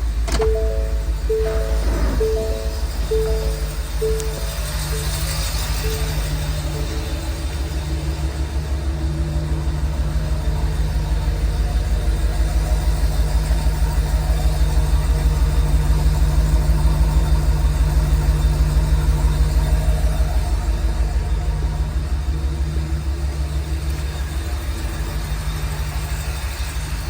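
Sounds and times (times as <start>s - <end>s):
pickup truck engine idling: 0.0s - 27.0s.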